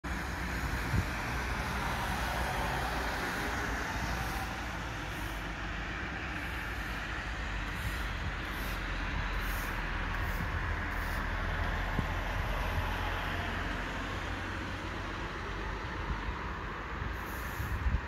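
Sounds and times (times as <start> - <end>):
distant city traffic: 0.0 - 18.0.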